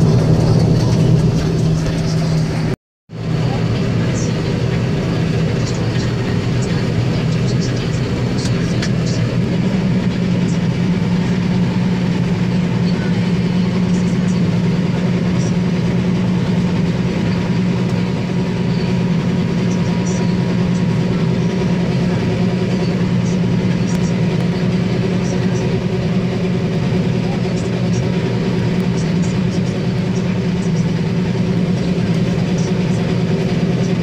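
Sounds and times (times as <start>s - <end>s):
combine harvester drone: 0.0s - 34.0s.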